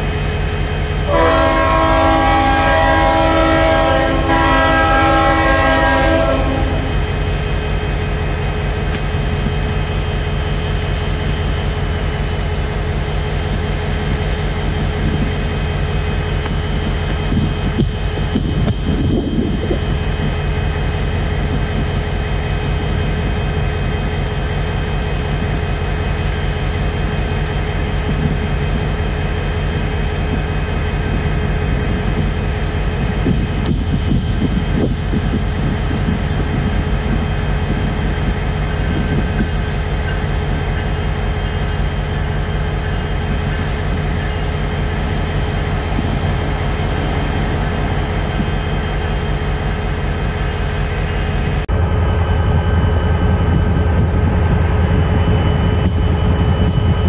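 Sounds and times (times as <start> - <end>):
diesel locomotive engine rumble: 0.0 - 57.0
high whine: 0.0 - 57.0.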